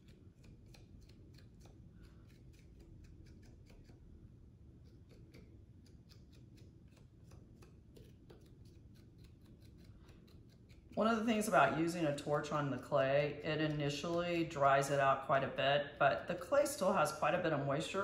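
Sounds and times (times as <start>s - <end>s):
scoring rib scratching clay: 0.0s - 15.1s.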